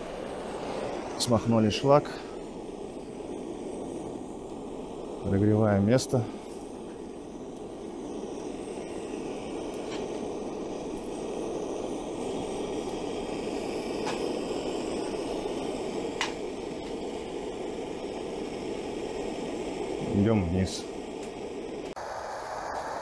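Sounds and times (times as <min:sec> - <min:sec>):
gas burner flame hissing: 0:00.0 - 0:23.0.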